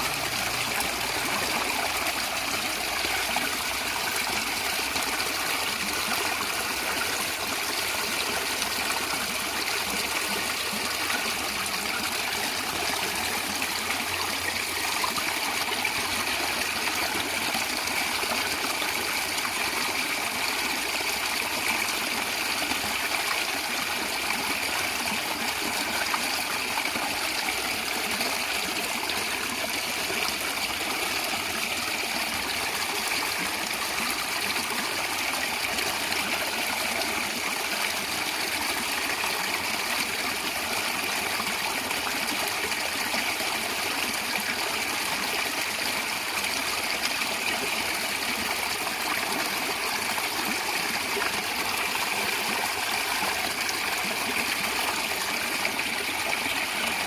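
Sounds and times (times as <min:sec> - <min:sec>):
stream of water gurgling: 0:00.0 - 0:57.0.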